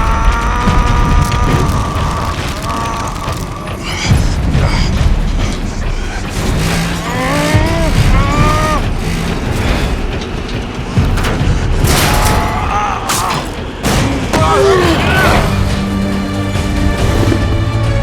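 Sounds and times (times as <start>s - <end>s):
film music score: 0.0s - 18.0s
heavy dense rumble: 0.0s - 18.0s
mechanical clanking: 0.0s - 18.0s.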